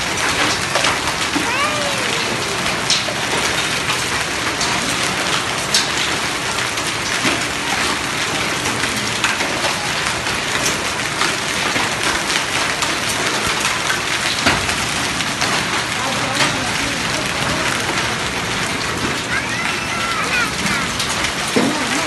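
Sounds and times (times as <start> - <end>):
hailstones ticking: 0.0 - 22.0
heavy rain on pavement: 0.0 - 22.0.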